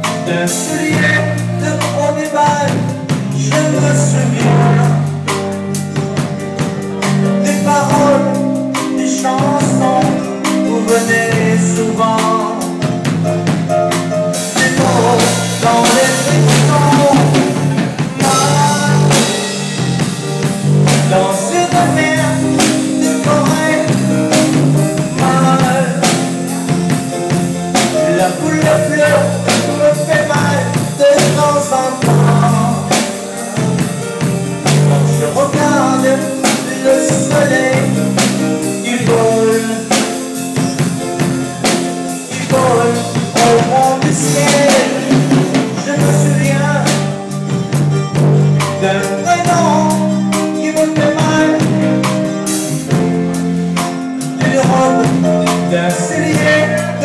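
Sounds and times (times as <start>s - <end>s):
drum kit beat: 0.0s - 57.0s
electric guitar: 0.0s - 57.0s
person singing: 0.0s - 57.0s.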